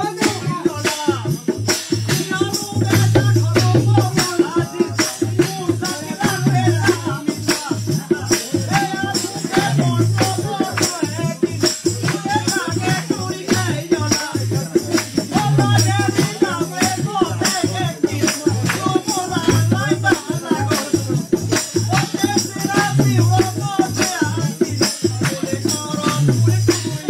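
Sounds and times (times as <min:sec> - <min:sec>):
fast rattling percussion: 0:00.0 - 0:27.0.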